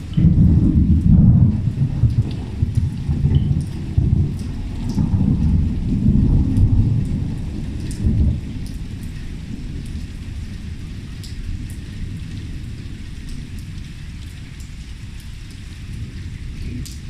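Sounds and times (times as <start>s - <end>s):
heavy rain pouring: 0.0s - 17.0s
rolling thunder rumble: 0.0s - 17.0s
water drips ticking: 0.0s - 17.0s.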